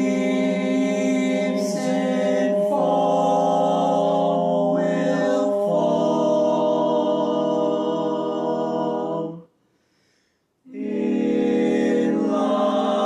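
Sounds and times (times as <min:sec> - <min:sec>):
male quartet singing in harmony: 0:00.0 - 0:09.4, 0:10.7 - 0:13.0.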